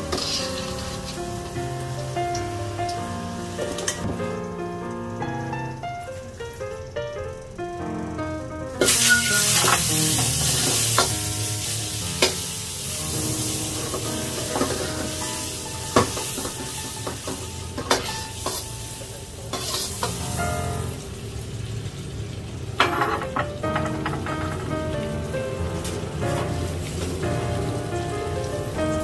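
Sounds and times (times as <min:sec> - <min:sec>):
food sizzling in a pan: 0:00.0 - 0:07.4, 0:08.8 - 0:29.0.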